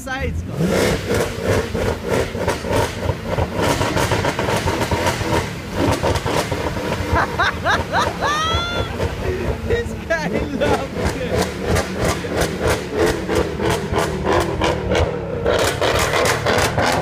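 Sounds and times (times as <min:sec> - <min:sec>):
car engine revving: 0:00.0 - 0:17.0
exhaust crackles: 0:00.0 - 0:17.0.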